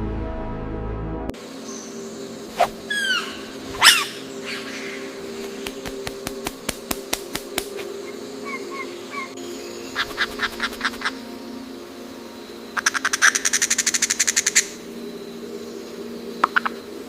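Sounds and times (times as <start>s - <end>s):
birds calling: 1.6s - 17.0s.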